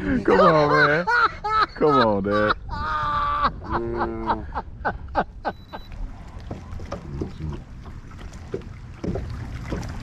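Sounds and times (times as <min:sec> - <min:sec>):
low open-air rumble: 0:00.0 - 0:10.0.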